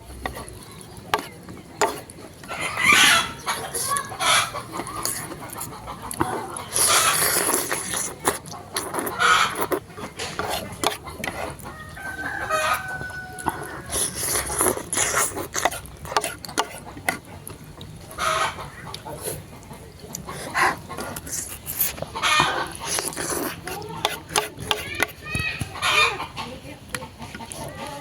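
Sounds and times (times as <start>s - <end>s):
slurping noodles: 0.0s - 25.2s
chewing and smacking: 0.0s - 25.8s.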